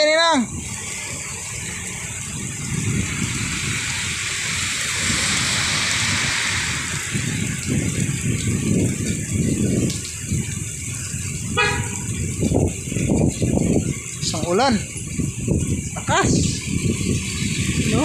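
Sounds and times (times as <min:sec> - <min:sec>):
heavy rain pouring: 0:00.0 - 0:18.0
vehicle driving through water: 0:00.5 - 0:18.0.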